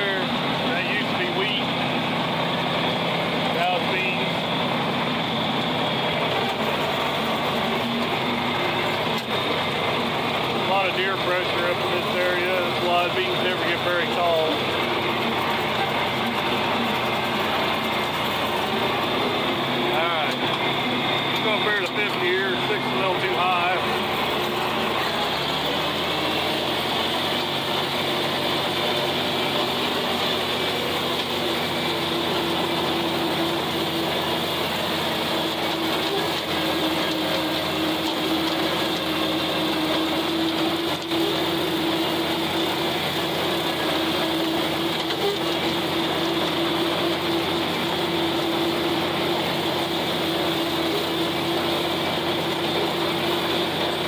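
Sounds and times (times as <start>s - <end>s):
rotary cutter blades mowing: 0.0s - 54.0s
tractor engine pulling under load: 0.0s - 54.0s.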